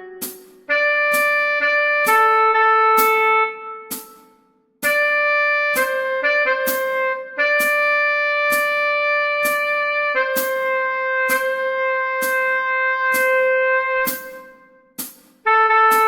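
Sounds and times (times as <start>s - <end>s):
tenor saxophone melody: 0.0s - 4.2s, 4.8s - 14.8s, 15.4s - 16.0s
metronome clicking: 0.0s - 16.0s.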